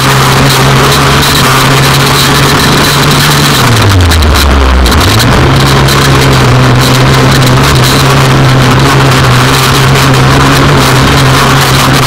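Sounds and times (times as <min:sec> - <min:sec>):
buggy engine at high revs: 0:00.0 - 0:12.0.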